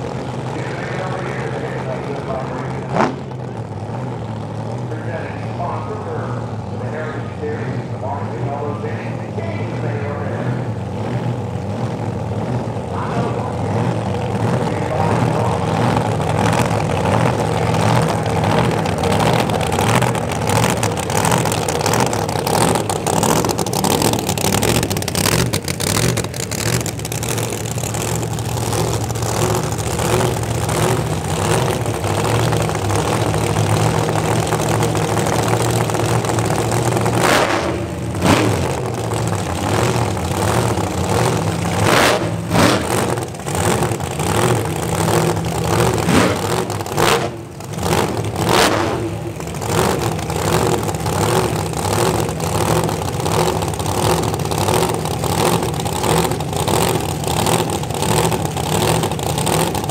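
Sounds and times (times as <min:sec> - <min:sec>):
engine revving: 0:00.0 - 0:59.9
loud engines idling: 0:00.0 - 0:59.9.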